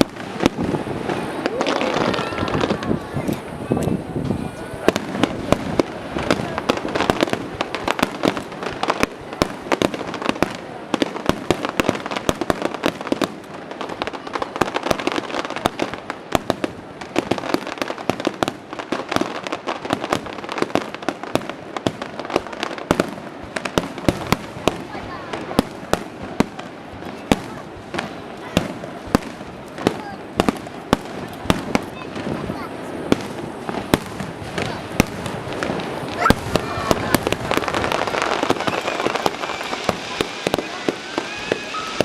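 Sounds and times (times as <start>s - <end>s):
fireworks crackling: 0.0s - 42.0s.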